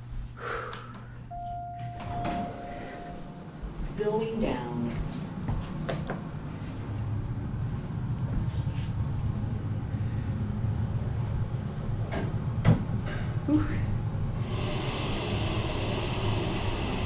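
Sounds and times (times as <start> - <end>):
elevator cab rumble and hum: 0.9 - 17.0.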